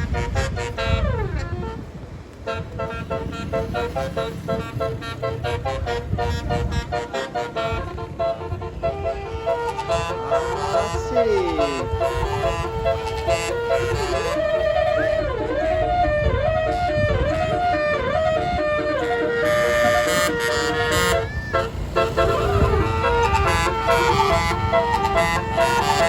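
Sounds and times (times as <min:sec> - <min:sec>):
multi-tone bus horn melody: 0:00.0 - 0:26.0.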